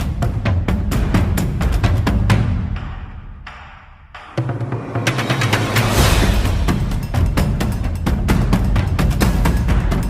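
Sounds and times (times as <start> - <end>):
dramatic drum and percussion beat: 0.0 - 10.0.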